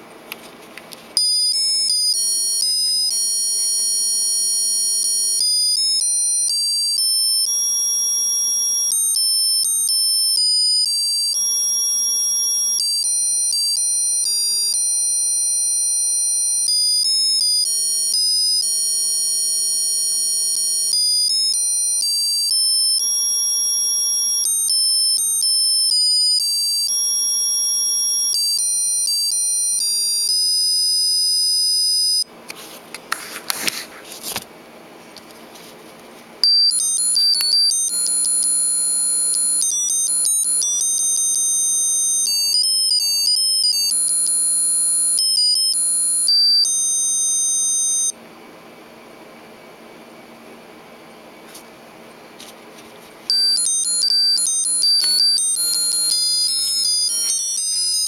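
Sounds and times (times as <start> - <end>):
wristwatch buzzer beeping melody: 1.2 - 32.3, 36.4 - 48.2, 53.3 - 58.0.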